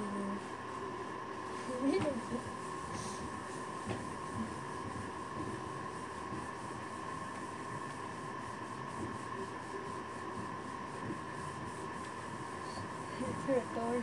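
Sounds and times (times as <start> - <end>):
faint constant hum: 0.0 - 14.0.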